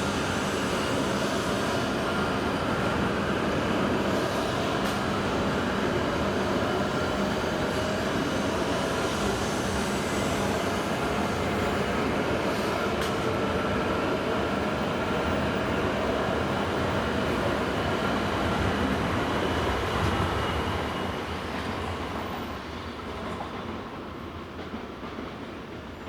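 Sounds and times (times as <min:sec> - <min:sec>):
train running noise: 0:00.0 - 0:26.0.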